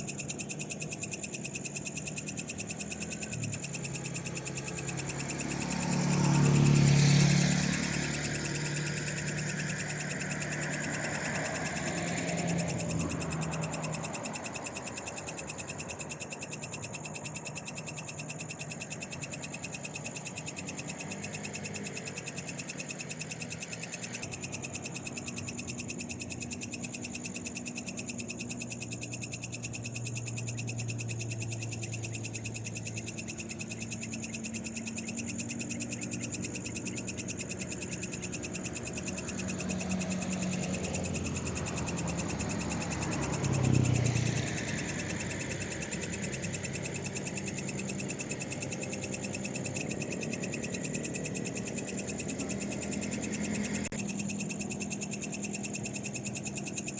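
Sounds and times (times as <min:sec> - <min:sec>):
frogs trilling: 0:00.0 - 0:56.9
low hum of distant vehicle: 0:00.0 - 0:56.9.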